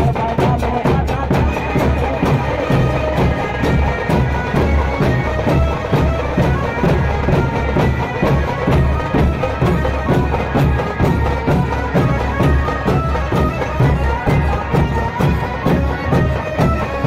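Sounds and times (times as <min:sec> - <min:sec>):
barrel drums beating: 0:00.0 - 0:17.0.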